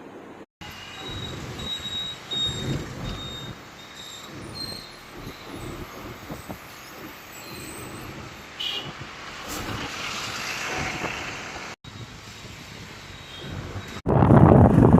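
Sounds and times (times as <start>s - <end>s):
road traffic: 0.0s - 14.9s.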